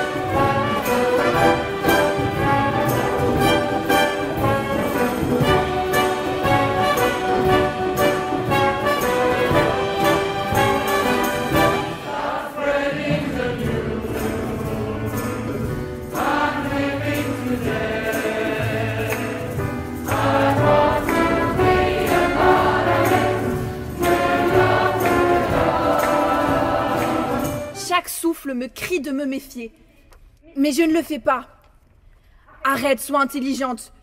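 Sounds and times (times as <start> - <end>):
orchestra and choir performing: 0.0 - 28.0
percussion accents: 0.0 - 28.3.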